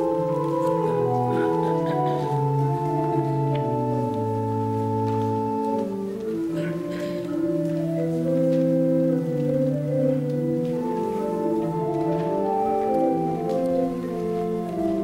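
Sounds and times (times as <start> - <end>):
church organ sustained chords: 0.0 - 15.0.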